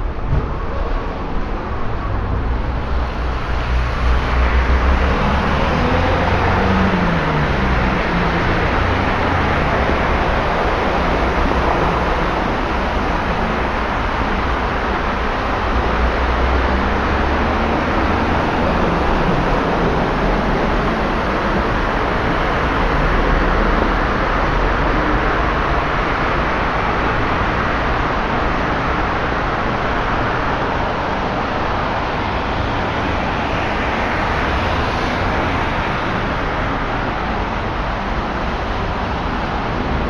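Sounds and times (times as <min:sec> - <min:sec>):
engines rumbling: 0:00.0 - 0:40.0.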